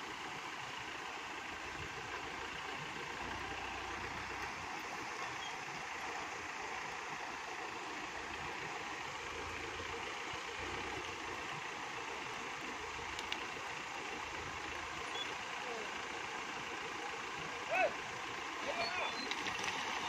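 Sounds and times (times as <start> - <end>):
distant engine running low: 0.0 - 20.0.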